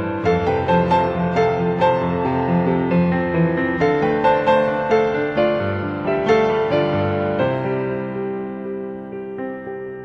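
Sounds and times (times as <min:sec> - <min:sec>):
slow piano-like keyboard chords: 0:00.0 - 0:10.0.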